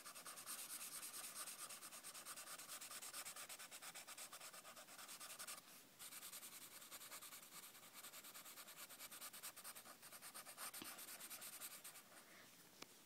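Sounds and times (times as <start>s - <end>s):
marker scribbling on paper: 0.0s - 12.2s.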